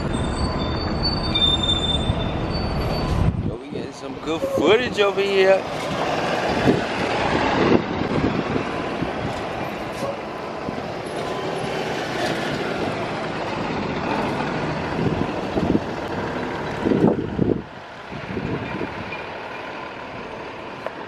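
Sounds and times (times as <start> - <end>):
bus engine running: 0.0 - 21.0
tyre and road noise: 0.0 - 21.0.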